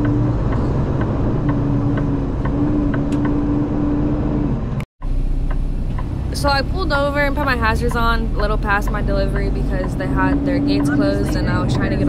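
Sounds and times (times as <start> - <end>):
road noise: 0.0 - 12.0
truck diesel engine rumble: 0.0 - 12.0.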